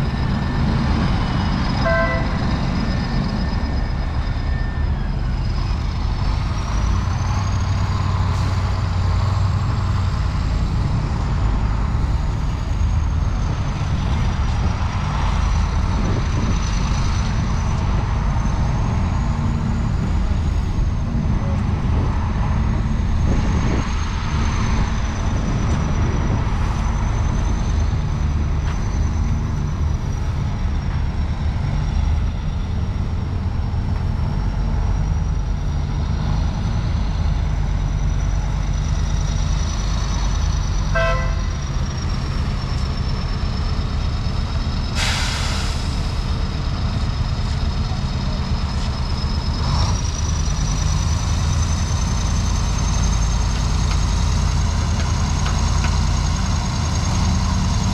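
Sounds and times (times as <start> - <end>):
diesel engine drone: 0.0 - 57.9.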